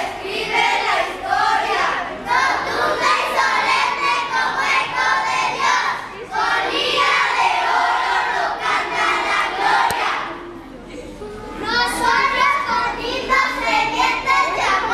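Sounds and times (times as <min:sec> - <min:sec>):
children reciting in unison: 0:00.0 - 0:10.4, 0:11.6 - 0:14.9.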